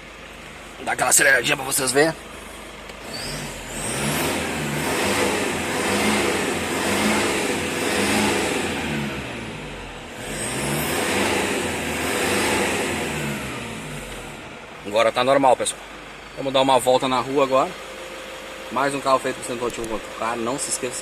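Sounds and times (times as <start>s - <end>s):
diesel engine revving: 0.8s - 17.9s.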